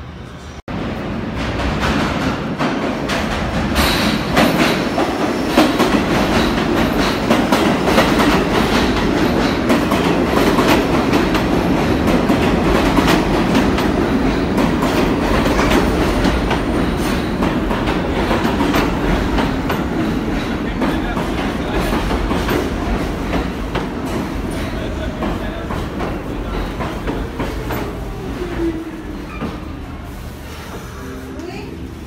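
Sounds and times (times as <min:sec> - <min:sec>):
subway train wheels rumbling: 0:00.0 - 0:32.0.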